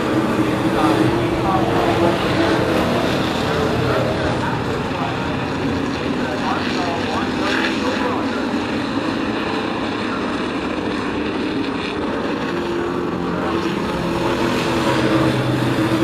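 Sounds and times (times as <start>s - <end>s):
racing truck engines droning: 0.0s - 16.0s
single steady engine note: 0.0s - 16.0s.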